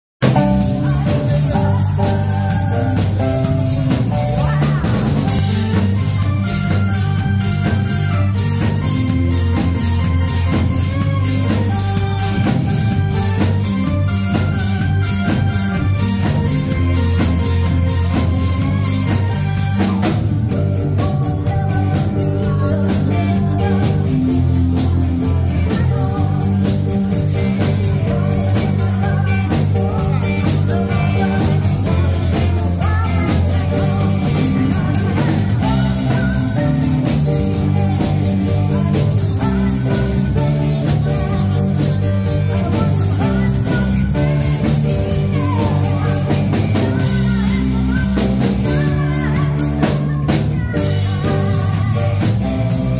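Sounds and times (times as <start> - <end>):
drum kit and guitar: 0.2 - 52.9
woman singing into a microphone: 0.3 - 52.9.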